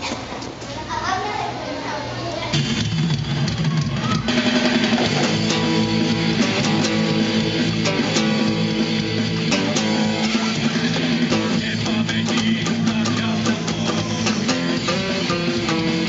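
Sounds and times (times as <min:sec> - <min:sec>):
acoustic guitar strumming: 0:02.5 - 0:16.0.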